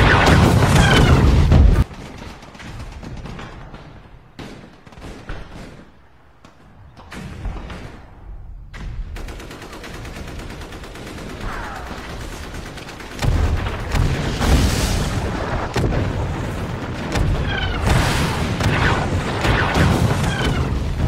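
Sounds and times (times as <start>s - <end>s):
rapid gunshots: 0.0s - 6.2s, 7.1s - 21.0s.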